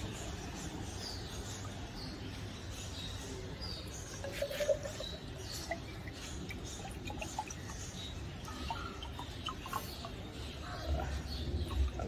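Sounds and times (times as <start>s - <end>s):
small birds chirping: 0.0s - 12.0s
water trickling into glass: 0.0s - 12.0s.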